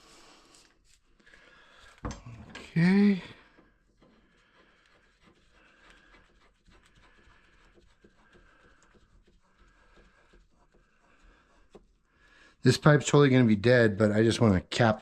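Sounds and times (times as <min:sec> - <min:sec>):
faint scratching: 0:00.2 - 0:15.0.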